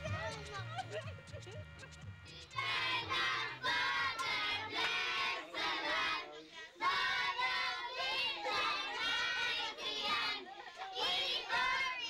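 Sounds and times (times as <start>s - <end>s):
children chanting: 2.2s - 12.0s.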